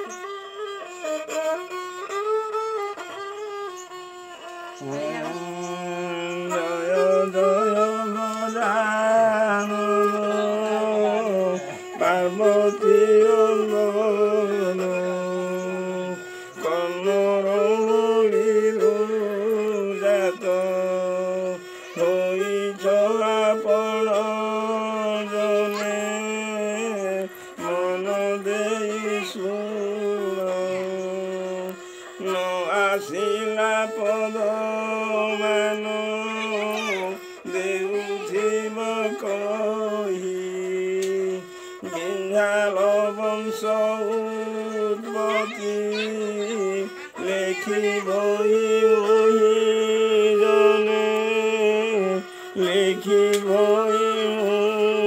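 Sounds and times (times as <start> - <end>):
bowed fiddle folk melody: 0.0 - 55.0.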